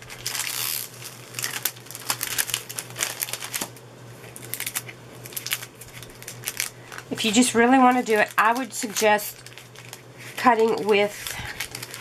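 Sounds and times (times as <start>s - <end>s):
plastic film peeling and crackling: 0.0s - 12.0s.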